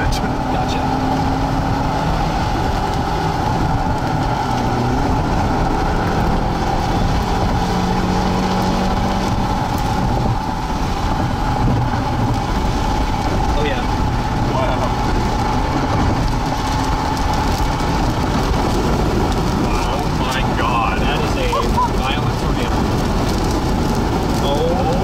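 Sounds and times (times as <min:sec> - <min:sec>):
car engine: 0:00.0 - 0:25.0
road noise: 0:00.0 - 0:25.0
wind noise: 0:00.0 - 0:25.0.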